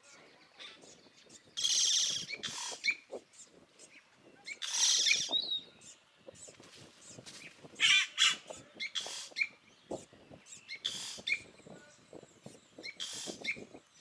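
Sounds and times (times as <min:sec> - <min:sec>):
bird rasping song: 0:00.0 - 0:14.0
bird chirps and clicks: 0:00.5 - 0:13.9.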